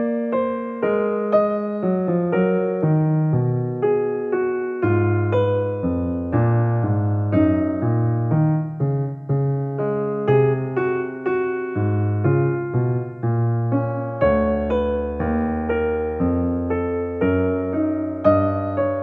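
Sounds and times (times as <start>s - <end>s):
electric piano music: 0.0s - 19.0s.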